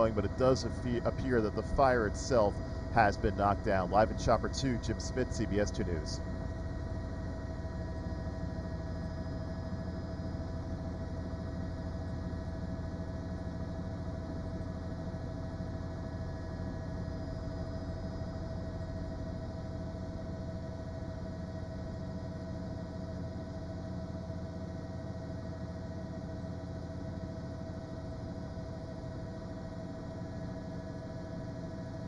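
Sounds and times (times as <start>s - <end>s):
steady hum with held tones: 0.0s - 32.0s.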